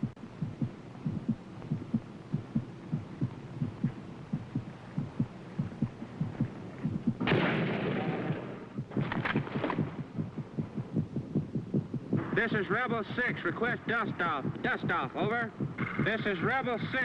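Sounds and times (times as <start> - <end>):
heartbeat thumps: 0.0 - 17.0.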